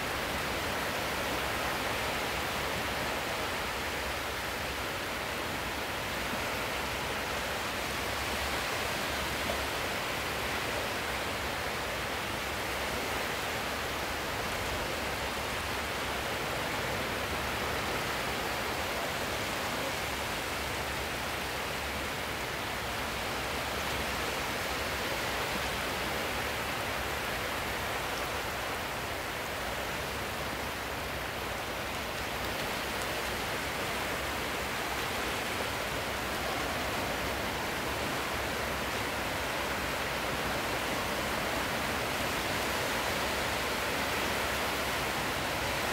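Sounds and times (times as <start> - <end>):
sea surf washing: 0.0 - 45.9.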